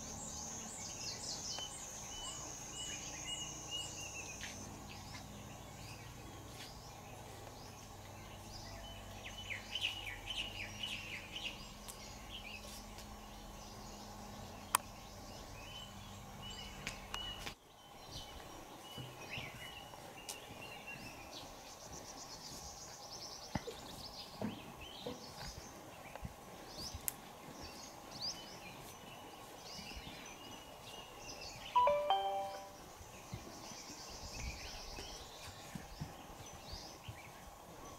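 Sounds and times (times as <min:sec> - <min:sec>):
birds chirping: 0:00.0 - 0:37.9
steady background hiss: 0:00.0 - 0:37.9.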